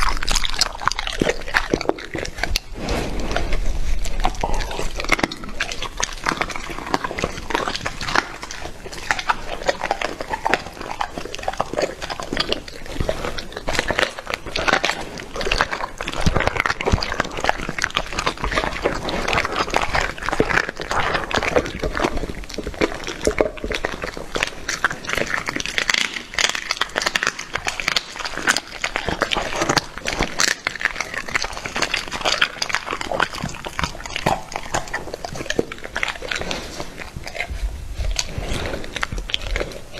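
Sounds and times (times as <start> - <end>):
dog chewing raw meat: 0.0 - 39.9.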